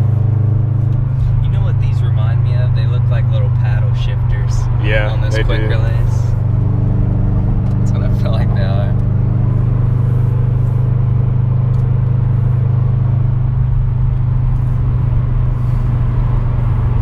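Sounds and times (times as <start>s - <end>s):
car engine low drone: 0.0s - 17.0s
road noise: 0.0s - 17.0s.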